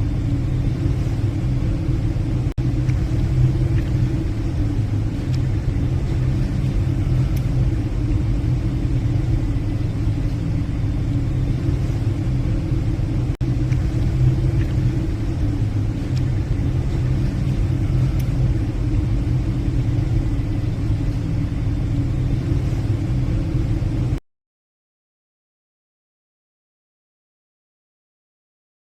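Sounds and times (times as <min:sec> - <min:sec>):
ship engine rumble: 0:00.0 - 0:24.2.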